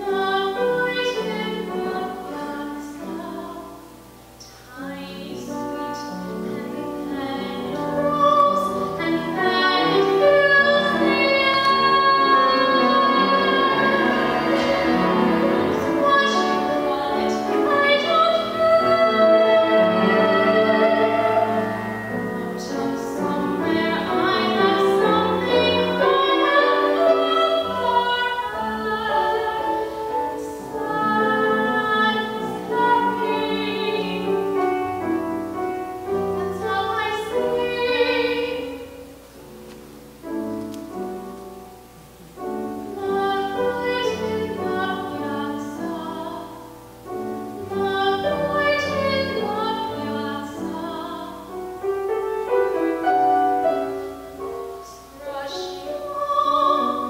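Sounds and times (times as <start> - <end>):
woman singing operatically: 0.0 - 3.8, 4.7 - 34.7, 36.2 - 39.1, 42.4 - 46.6, 47.6 - 51.6, 52.8 - 57.0
piano accompaniment: 0.0 - 57.0.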